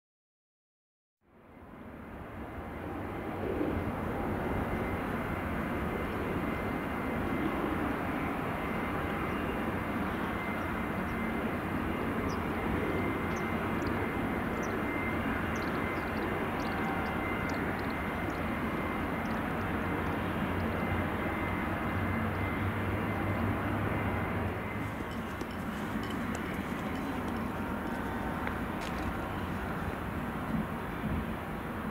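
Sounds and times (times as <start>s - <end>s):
jet engine noise: 1.6s - 31.9s
high whine: 4.0s - 31.4s.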